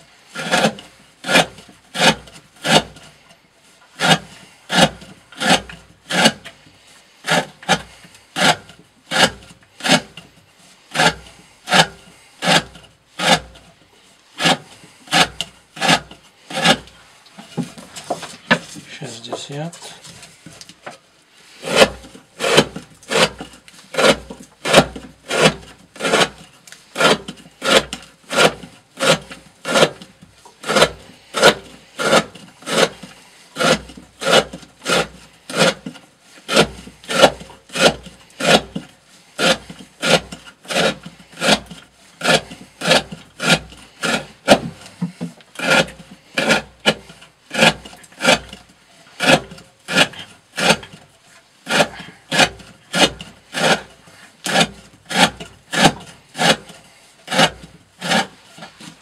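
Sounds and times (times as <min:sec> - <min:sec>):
knife shaving wood: 0:00.2 - 0:59.0.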